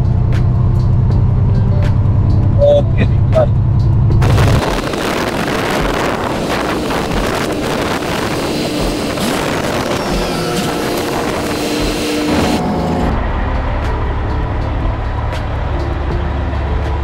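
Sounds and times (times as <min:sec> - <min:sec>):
truck engine hum: 0:00.0 - 0:17.0
truck road noise: 0:00.0 - 0:17.0
wind on microphone: 0:00.0 - 0:17.0.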